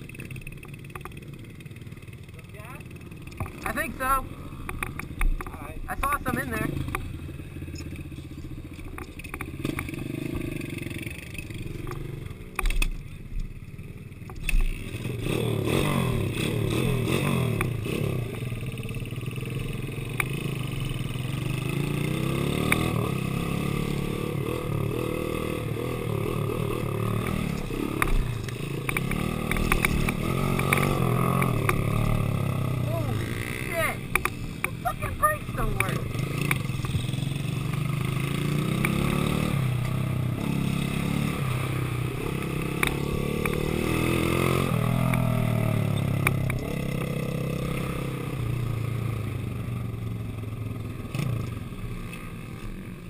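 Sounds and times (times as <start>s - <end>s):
dirt bike engine revving: 0.0s - 12.8s, 14.5s - 52.8s.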